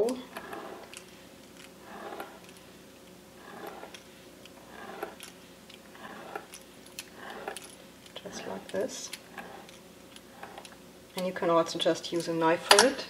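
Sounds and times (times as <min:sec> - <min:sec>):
pastry wheel rolling through dough: 0:00.0 - 0:12.4.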